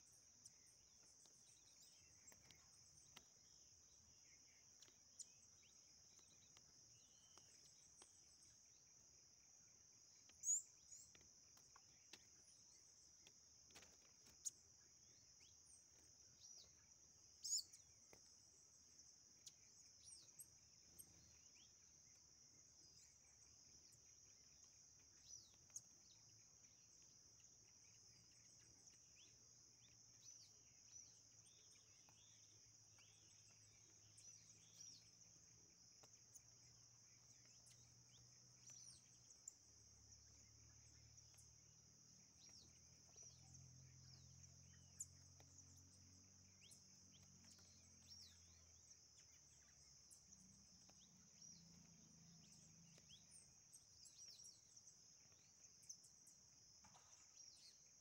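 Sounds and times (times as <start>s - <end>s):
bird chirps: 0.0s - 58.0s
insects trilling: 0.0s - 58.0s.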